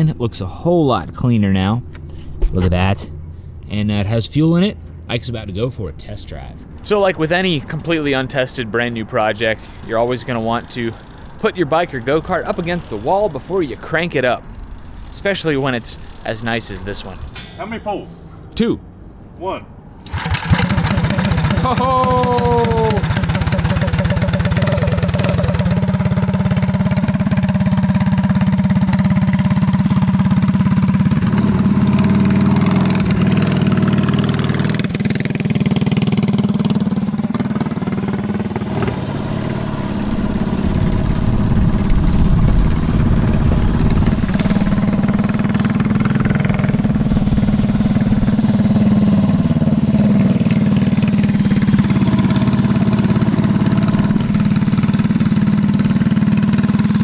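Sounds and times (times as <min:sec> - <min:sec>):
single-cylinder engine revving: 0:07.0 - 0:17.3, 0:20.0 - 0:57.0.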